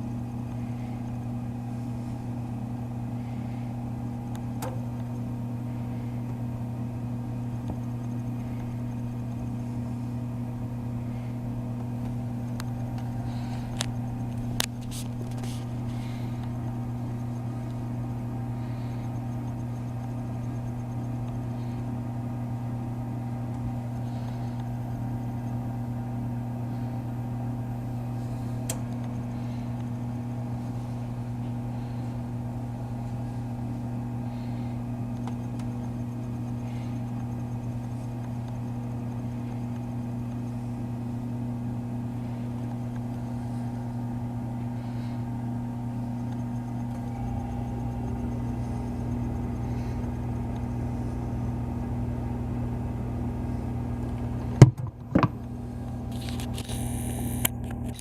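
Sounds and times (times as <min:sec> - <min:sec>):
toaster oven humming: 0:00.0 - 0:58.0.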